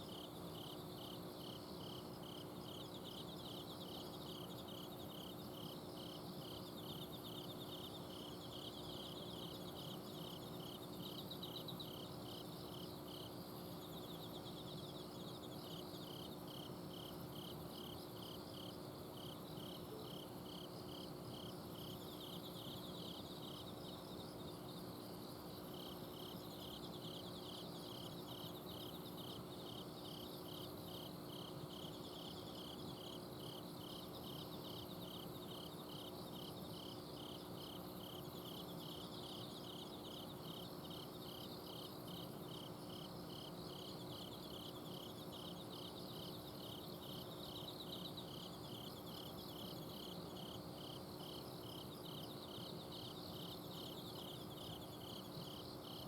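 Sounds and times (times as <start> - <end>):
insect chirping: 0.0 - 56.0
insect trills: 0.0 - 56.0.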